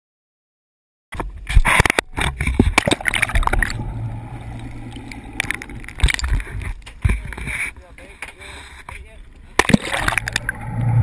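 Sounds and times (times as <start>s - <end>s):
water splashing and sloshing: 1.2s - 11.0s
low underwater hum: 1.4s - 11.0s.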